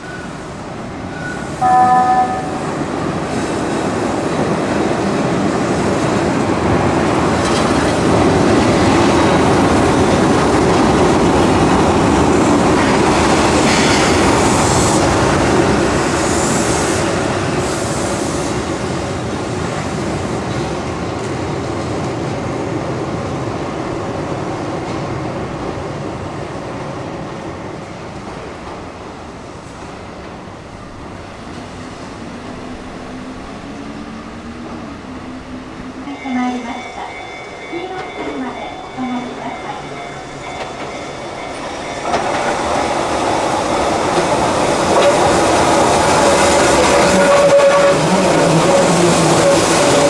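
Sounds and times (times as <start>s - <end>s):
train wheels rumbling: 0.0s - 50.0s.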